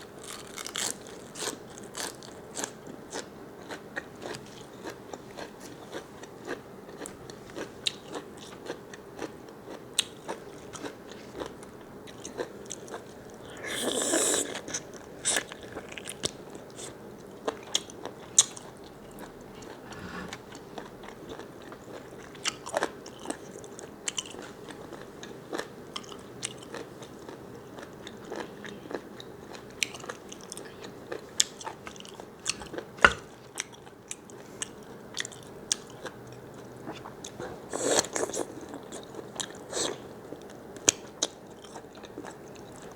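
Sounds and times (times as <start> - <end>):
person chewing crunchy food: 0.1 - 42.9.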